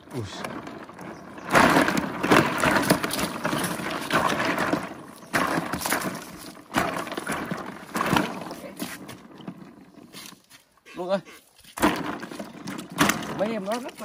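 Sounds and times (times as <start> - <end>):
fish thrashing in plastic cooler: 0.4 - 10.5, 11.7 - 14.0.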